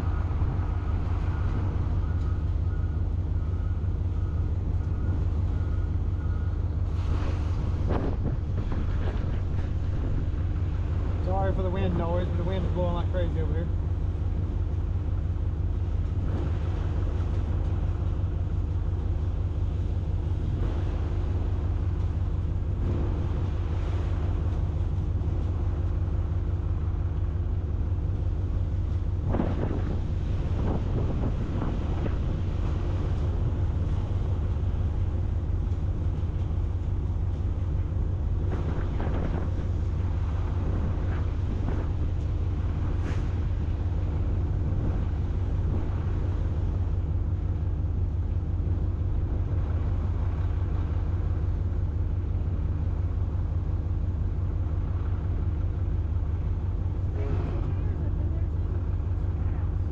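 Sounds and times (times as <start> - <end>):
engine running: 0.0 - 59.9
wind buffeting microphone: 0.0 - 59.9.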